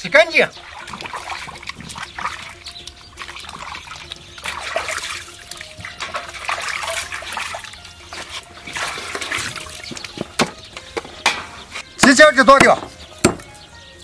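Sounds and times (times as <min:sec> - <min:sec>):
water sloshing in a basin: 0:00.0 - 0:11.9
water trickling and dripping: 0:00.0 - 0:13.5.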